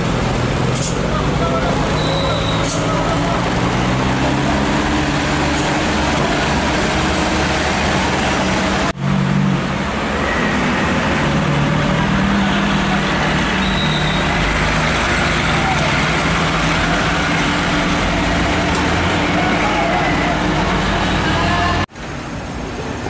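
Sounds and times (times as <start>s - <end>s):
diesel truck engine droning: 0.0s - 21.9s
car engines: 0.0s - 23.0s
road noise: 0.0s - 23.0s.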